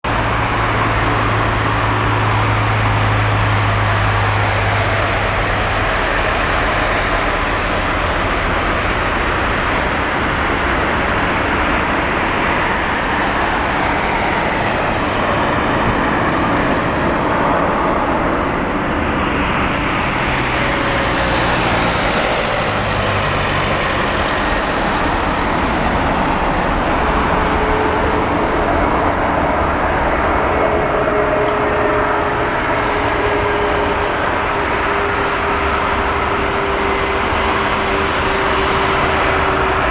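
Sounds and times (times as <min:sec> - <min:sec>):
jet airliner passing overhead: 0:00.0 - 0:39.9.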